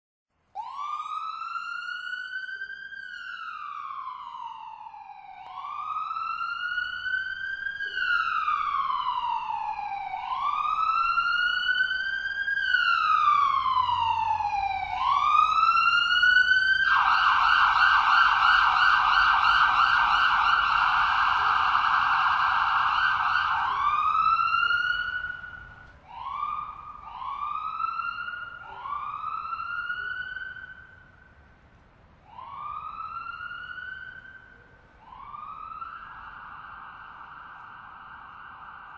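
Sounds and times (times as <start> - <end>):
distant ambulance siren: 0.5 - 38.9.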